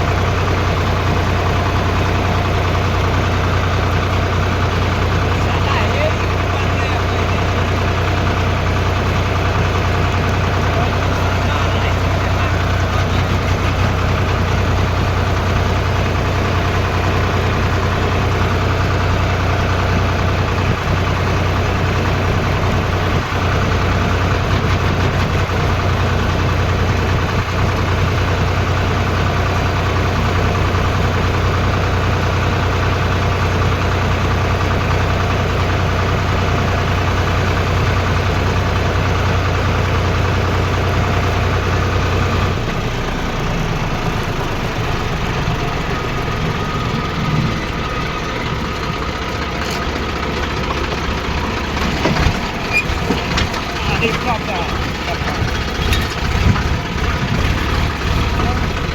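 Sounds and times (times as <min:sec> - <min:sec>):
tractor engine humming: 0:00.0 - 0:58.9.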